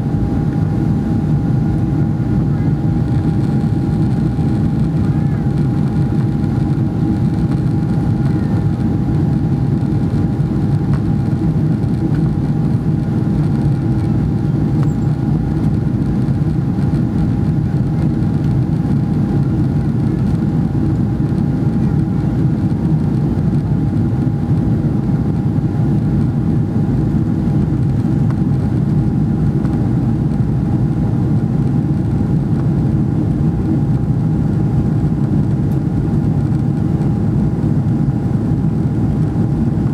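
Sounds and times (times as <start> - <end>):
jet engine drone: 0.0 - 39.9
thin steady whine: 0.0 - 39.9.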